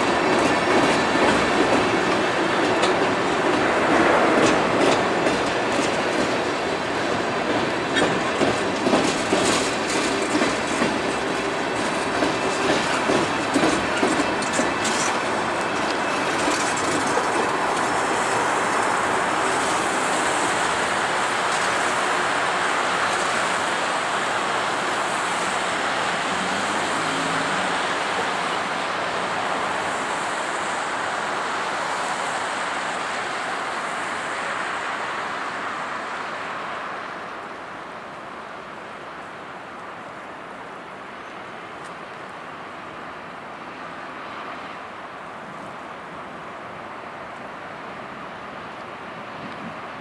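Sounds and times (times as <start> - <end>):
freight train rolling past: 0.0 - 50.0
road traffic noise: 0.0 - 50.0.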